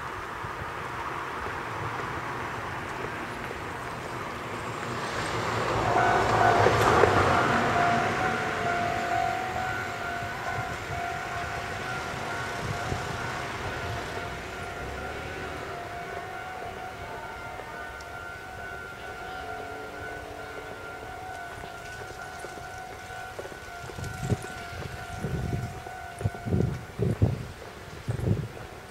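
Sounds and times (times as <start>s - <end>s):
passing vehicle rumble: 0.0s - 28.9s.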